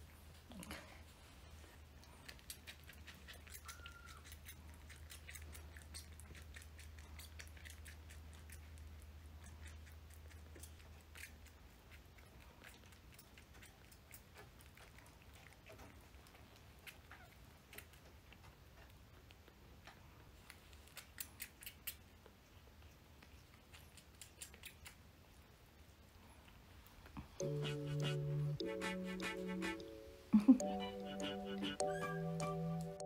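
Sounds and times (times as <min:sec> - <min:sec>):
kitten suckling: 0:00.3 - 0:33.0.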